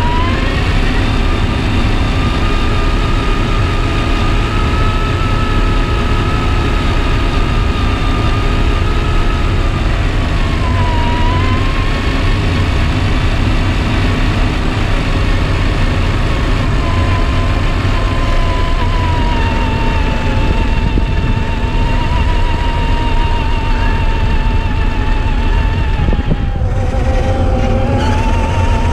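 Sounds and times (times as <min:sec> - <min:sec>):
constant low noise: 0:00.0 - 0:28.9
electric motor and gears whining: 0:00.0 - 0:28.9.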